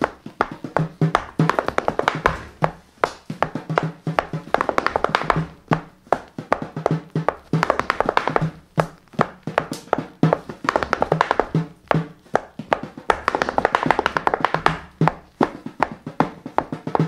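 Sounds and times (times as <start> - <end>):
frame drum thumps: 0.0 - 17.0
tap shoes on wooden board: 0.0 - 17.0.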